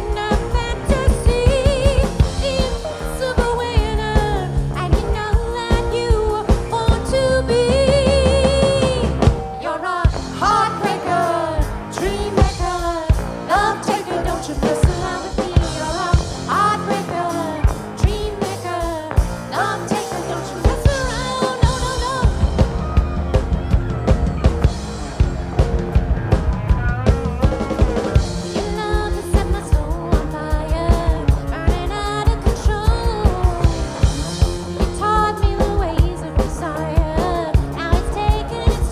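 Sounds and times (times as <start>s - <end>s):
drum kit playing: 0.0s - 38.9s.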